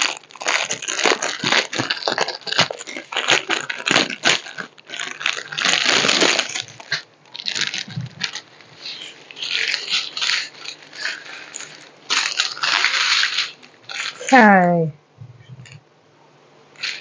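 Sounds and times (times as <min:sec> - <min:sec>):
plastic packets crinkling: 0:00.0 - 0:14.6, 0:16.8 - 0:17.0.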